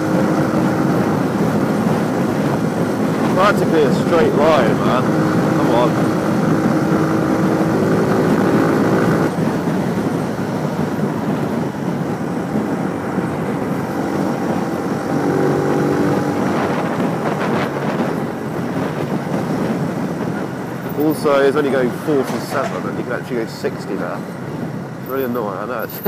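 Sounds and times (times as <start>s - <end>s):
motorcycle engine running: 0.0s - 21.2s
road noise: 0.0s - 26.0s
wind noise: 0.0s - 26.0s.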